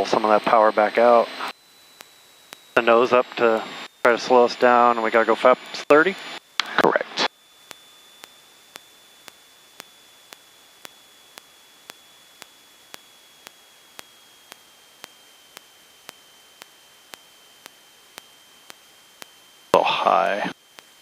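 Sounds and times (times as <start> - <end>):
faint steady hiss: 0.0 - 21.0
regular electrical ticking: 0.0 - 21.0
thin high whine: 0.0 - 21.0.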